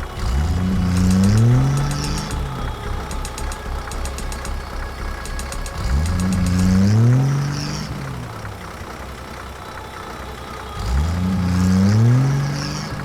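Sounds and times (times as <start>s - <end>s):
small engine revving: 0.0s - 13.0s
steady low hum: 0.0s - 13.0s.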